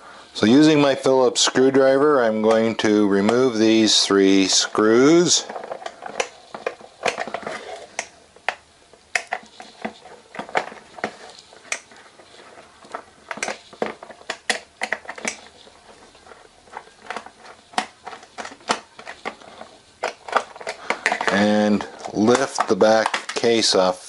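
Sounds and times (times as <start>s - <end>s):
hands handling plastic case: 1.4s - 23.8s.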